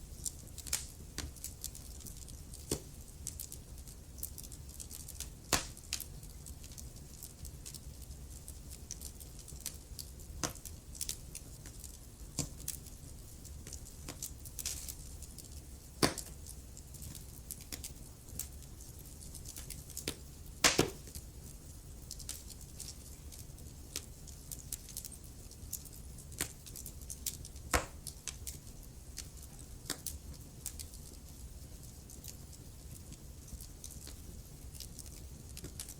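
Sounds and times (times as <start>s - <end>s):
low rumble of flames: 0.0s - 35.9s
wood fire crackling and popping: 0.0s - 35.9s
loud fire snaps: 0.1s - 35.9s.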